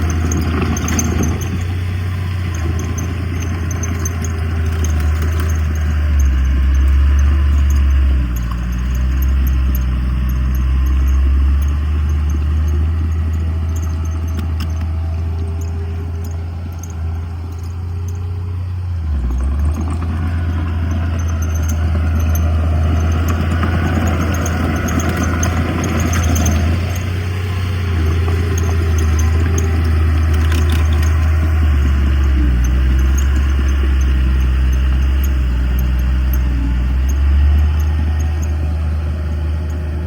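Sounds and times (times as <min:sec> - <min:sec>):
diesel machinery engine hum: 0:00.0 - 0:40.0.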